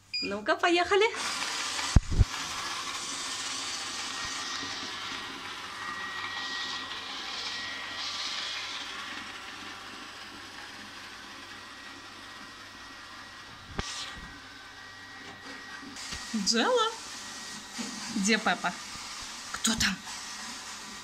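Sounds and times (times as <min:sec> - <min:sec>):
robot vacuum cleaner whirring: 0:00.9 - 0:21.0.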